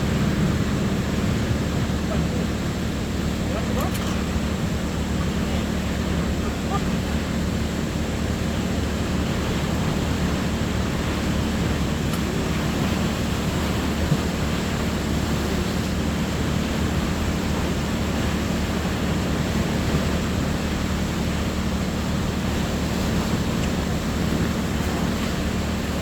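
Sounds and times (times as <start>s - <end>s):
low steady hum: 0.0s - 26.0s
sea surf rushing: 0.0s - 26.0s.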